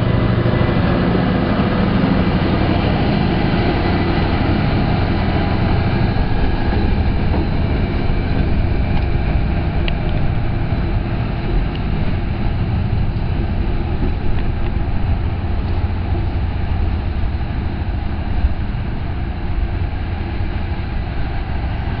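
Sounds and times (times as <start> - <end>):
diesel locomotive engine throb: 0.0 - 22.0
train rumble: 0.0 - 22.0.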